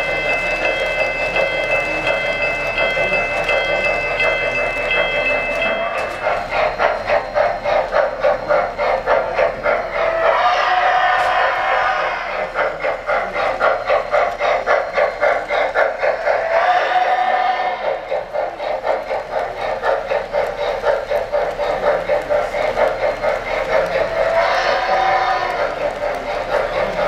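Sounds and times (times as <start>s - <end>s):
model train running on track: 0.0s - 27.0s
model train steam chuffs: 0.0s - 27.0s.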